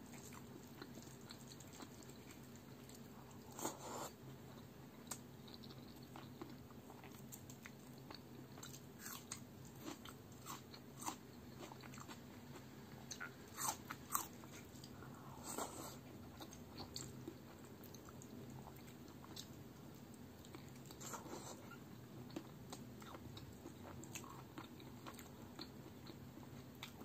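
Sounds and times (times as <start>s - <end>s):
chewing with wet mouth clicks: 0.1s - 3.1s, 4.5s - 14.9s, 16.3s - 27.0s.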